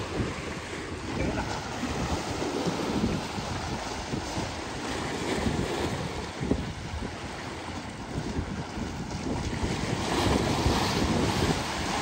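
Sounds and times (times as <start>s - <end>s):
waves washing against rocks: 0.0s - 12.0s
wind buffeting microphone: 0.0s - 12.0s.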